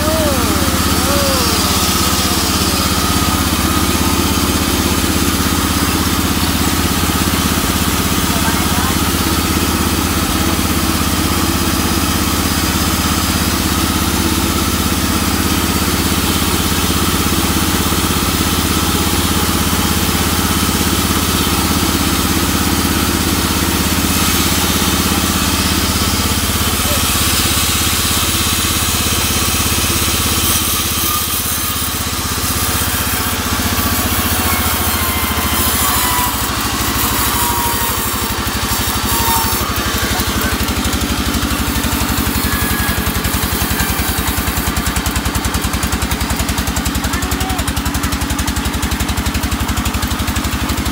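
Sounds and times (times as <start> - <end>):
sawmill mechanical drone: 0.0 - 50.9.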